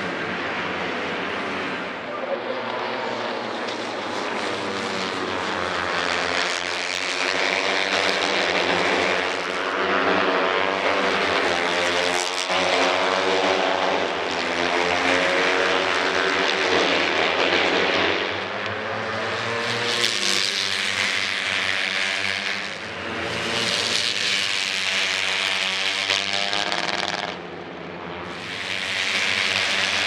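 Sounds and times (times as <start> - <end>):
race motorcycles passing at high revs: 0.0 - 30.0.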